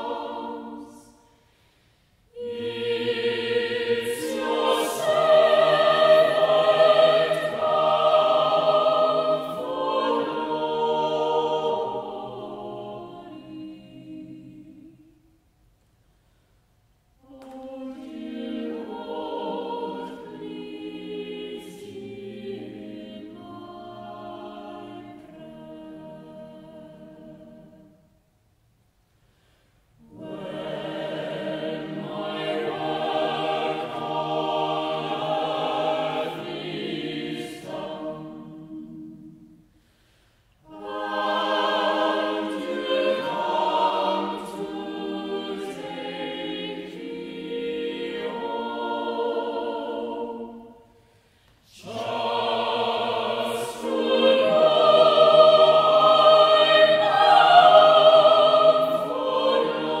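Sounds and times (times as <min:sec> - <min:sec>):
choir singing sustained chords: 0:00.0 - 1:00.0.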